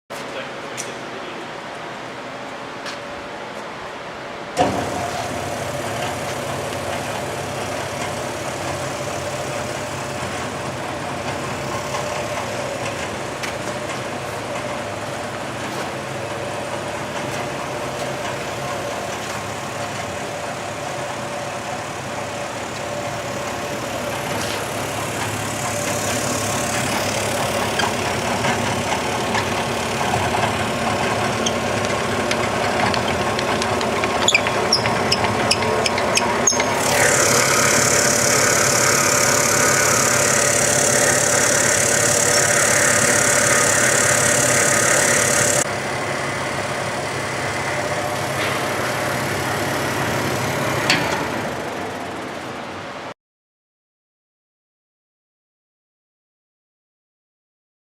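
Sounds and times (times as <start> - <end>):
bandsaw running: 4.6 - 52.3.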